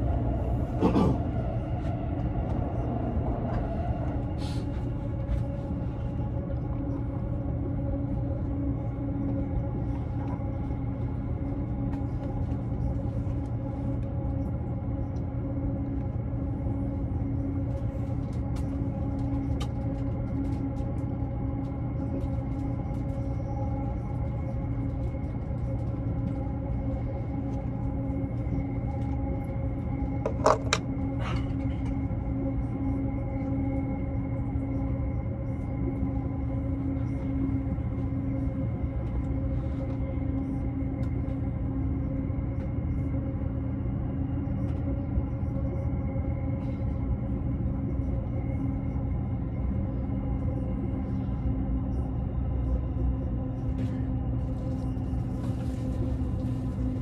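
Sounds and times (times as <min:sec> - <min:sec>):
constant hum: 0:00.0 - 0:57.0
train cabin rumble: 0:00.0 - 0:57.0.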